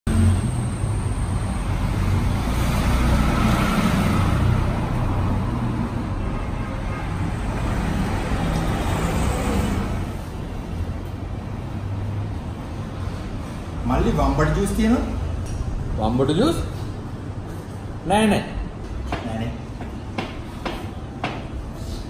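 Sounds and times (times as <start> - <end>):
rumble of passing vehicles: 0.1 - 22.0.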